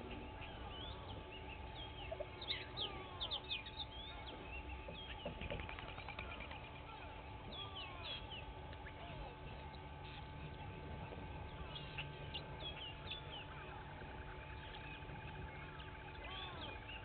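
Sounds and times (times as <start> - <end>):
wild birds singing and calling: 0.0 - 17.0
fast rattling bird trill: 0.3 - 17.0.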